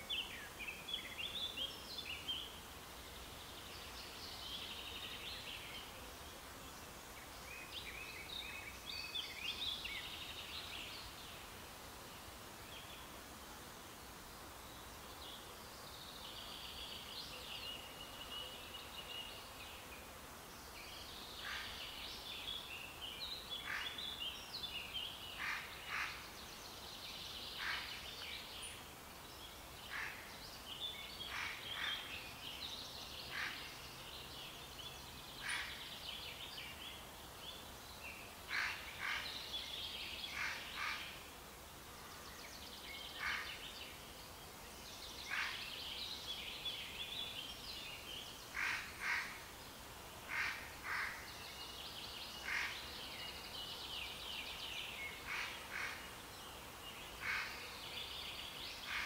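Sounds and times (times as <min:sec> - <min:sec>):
faint outdoor hiss: 0:00.0 - 0:59.0
songbird chirps and trills: 0:00.0 - 0:59.0.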